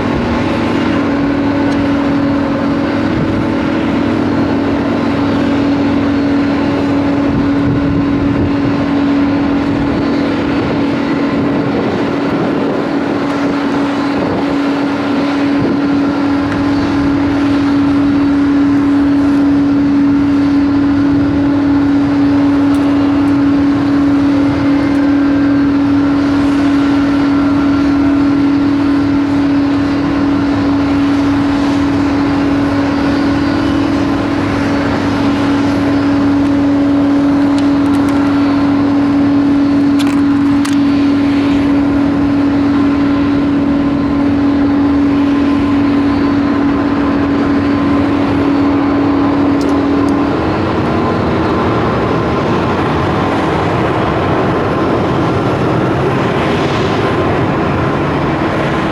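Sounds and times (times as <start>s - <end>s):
jet engines running: 0.0s - 58.9s.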